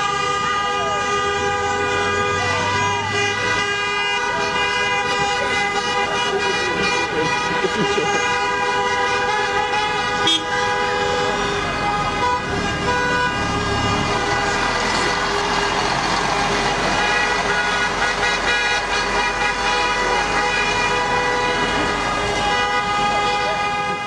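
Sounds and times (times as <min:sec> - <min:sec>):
horns blaring: 0:00.0 - 0:24.0
street noise: 0:00.0 - 0:24.0.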